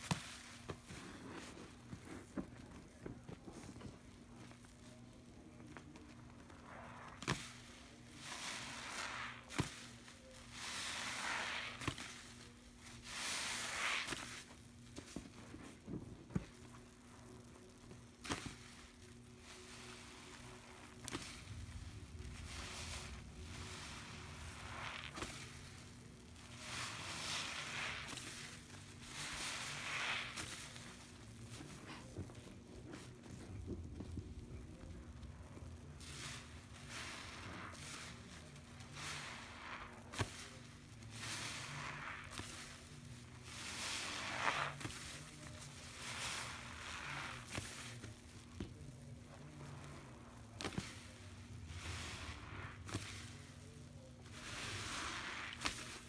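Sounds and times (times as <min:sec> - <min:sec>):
sponge squishing in lather: 0:00.0 - 0:56.0.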